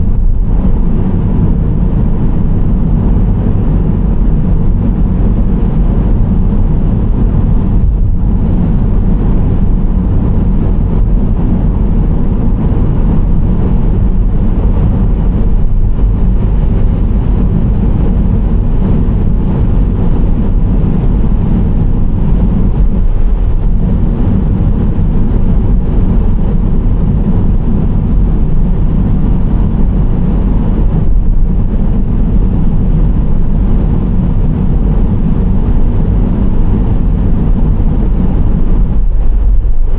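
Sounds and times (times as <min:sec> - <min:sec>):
engine hum: 0:00.0 - 0:39.9
road rumble: 0:00.0 - 0:39.9.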